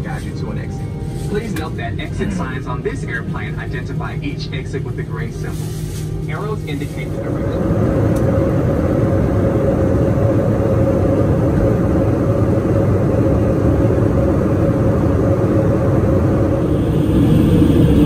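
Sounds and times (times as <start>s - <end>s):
airliner engines rumbling: 0.0s - 18.0s
steady cabin hum: 0.0s - 18.0s.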